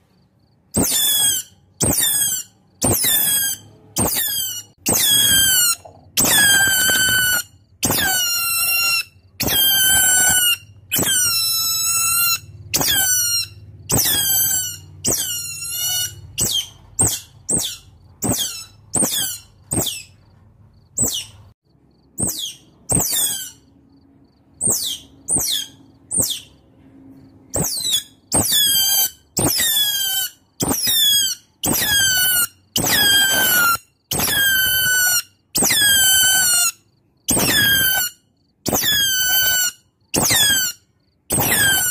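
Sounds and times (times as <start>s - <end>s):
otter chirps: 0.4s - 41.9s
otters squealing: 0.7s - 20.2s, 22.2s - 23.7s, 24.6s - 26.6s, 27.5s - 41.9s.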